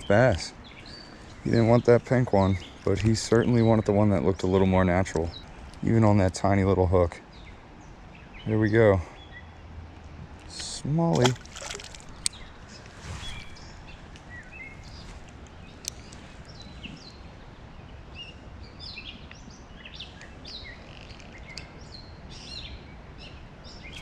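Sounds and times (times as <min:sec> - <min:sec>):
low outdoor background noise: 0:00.0 - 0:24.0
songbirds chirping and singing: 0:00.0 - 0:24.0.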